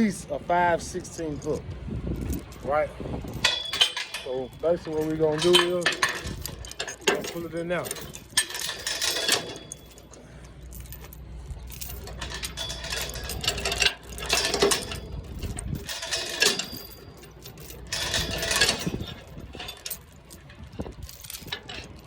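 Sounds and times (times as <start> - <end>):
low steady rumble: 0.0 - 22.0
steel chain clinking and rattling: 0.6 - 22.0.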